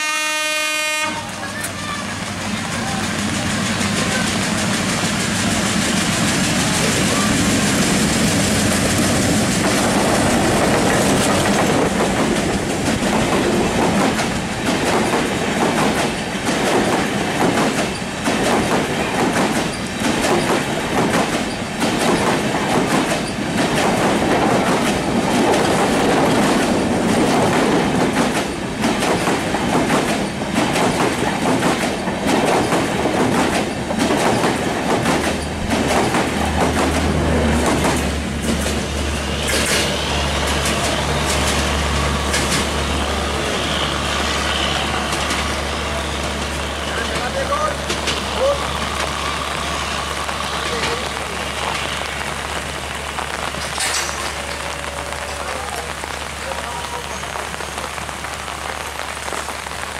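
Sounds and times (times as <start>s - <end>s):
locomotive passing: 0.0s - 59.9s
wheels clickety-clack over rail joints: 1.0s - 59.9s.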